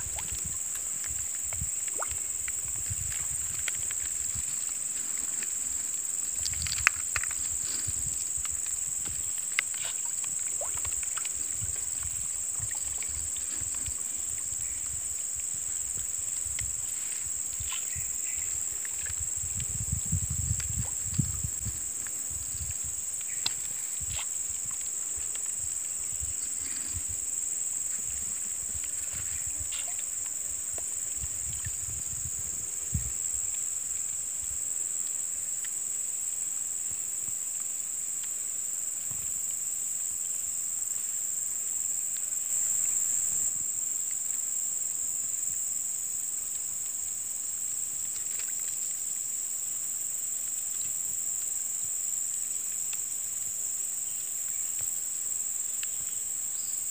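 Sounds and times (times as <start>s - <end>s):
insect chorus drone: 0.0s - 56.9s.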